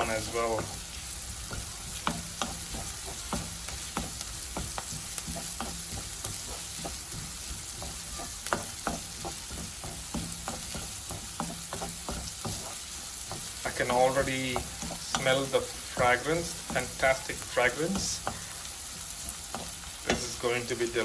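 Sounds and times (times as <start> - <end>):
utensil scraping a pan: 0.0 - 21.0
vegetables sizzling in oil: 0.0 - 21.0.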